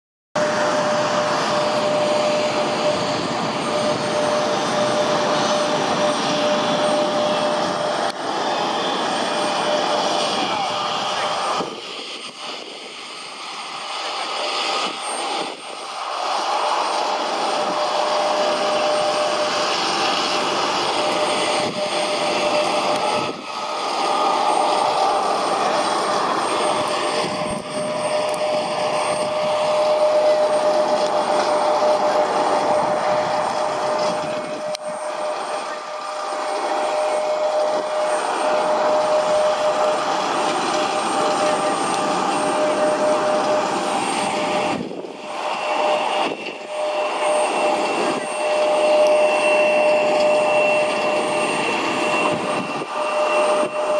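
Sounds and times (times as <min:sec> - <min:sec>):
jet turbine whining: 0:00.4 - 0:53.9.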